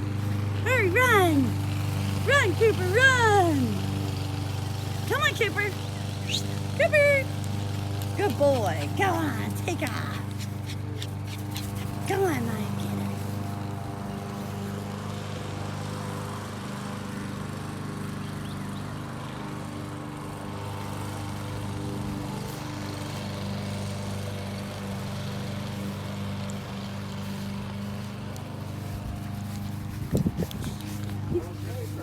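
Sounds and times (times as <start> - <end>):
engine humming steadily: 0.0 - 32.0.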